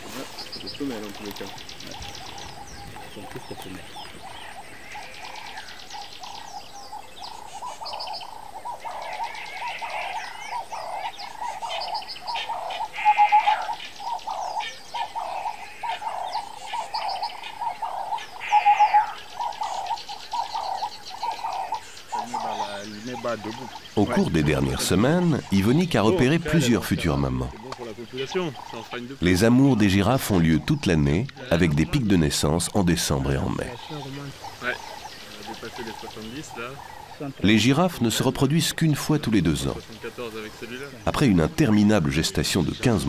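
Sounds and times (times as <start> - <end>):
higher bird chirps: 0.0 - 43.0
loud bird calls: 0.0 - 43.0.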